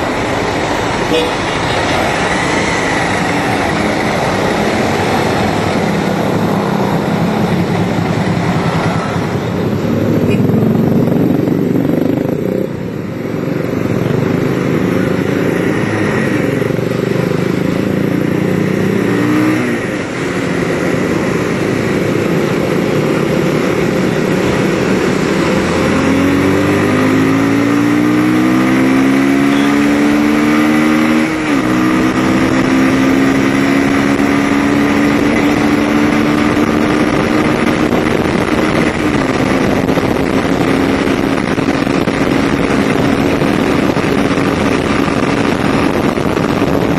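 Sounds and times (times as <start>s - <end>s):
motorcycle engine accelerating: 0.0s - 46.9s
rushing noise: 0.0s - 46.9s.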